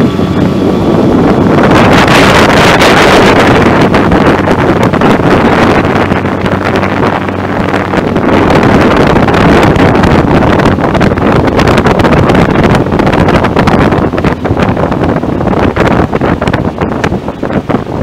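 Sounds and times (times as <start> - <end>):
outboard motor running: 0.0 - 18.0
wind buffeting microphone: 0.0 - 18.0.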